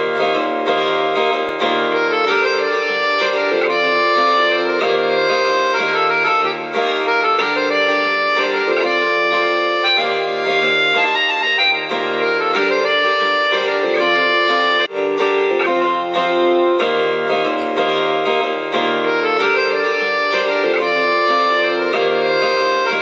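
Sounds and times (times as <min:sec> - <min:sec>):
instrumental background music: 0:00.0 - 0:23.0.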